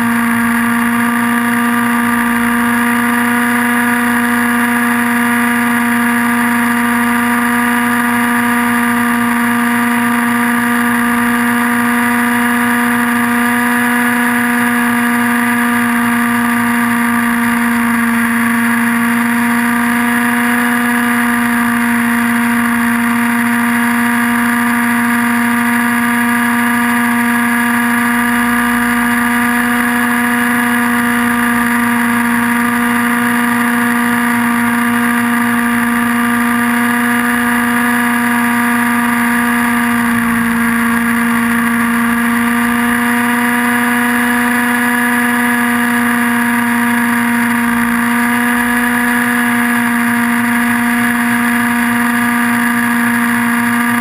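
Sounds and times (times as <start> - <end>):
model helicopter engine buzzing: 0.0 - 54.0.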